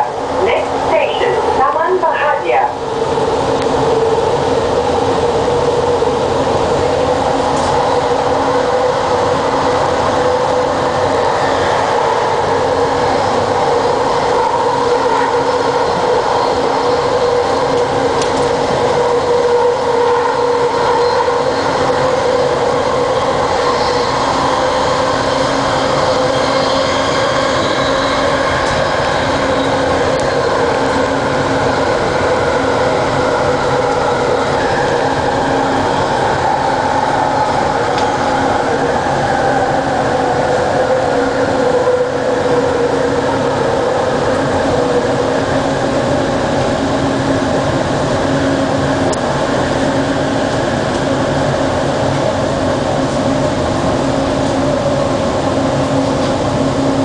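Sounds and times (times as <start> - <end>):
train rolling rumble: 0.0 - 57.0.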